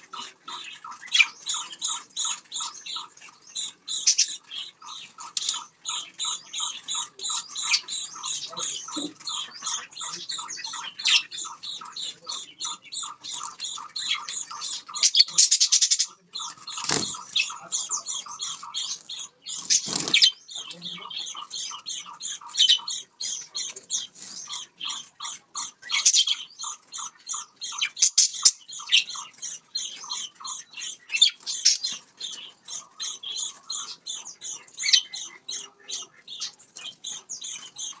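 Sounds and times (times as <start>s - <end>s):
budgerigars chirping: 0.0s - 38.0s.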